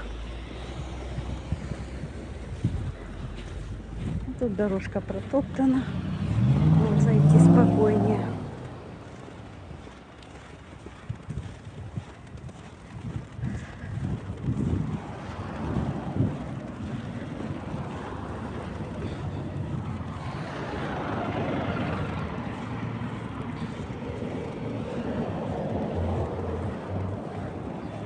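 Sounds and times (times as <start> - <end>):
wind rushing over microphone: 0.0 - 9.9, 11.0 - 28.0.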